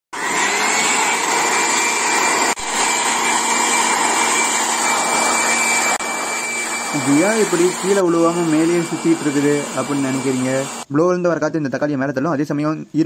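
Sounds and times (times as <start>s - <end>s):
electric air blower whining: 0.1s - 10.9s.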